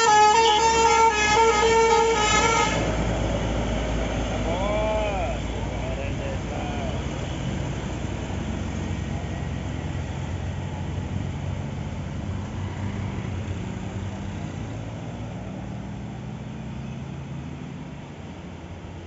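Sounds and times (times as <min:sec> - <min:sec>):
road noise: 0:00.0 - 0:19.0
large vehicle engine running: 0:00.1 - 0:19.0.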